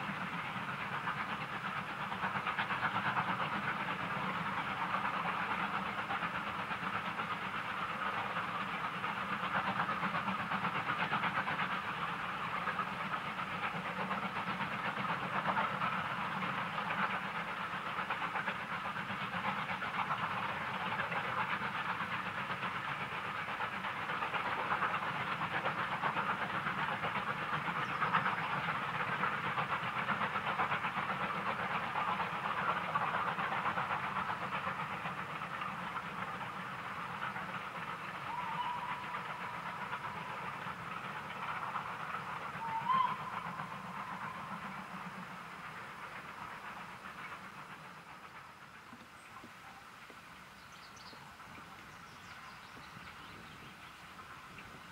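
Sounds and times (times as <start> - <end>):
distant steam locomotives working: 0.0 - 54.9.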